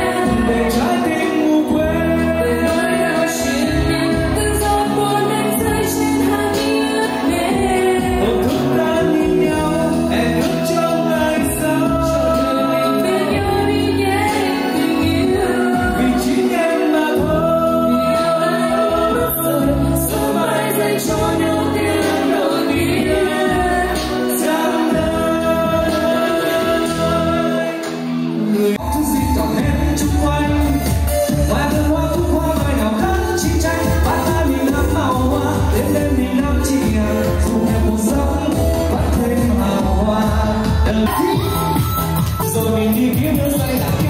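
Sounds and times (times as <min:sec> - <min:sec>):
instrumental accompaniment: 0:00.0 - 0:44.0
person singing: 0:00.0 - 0:44.0.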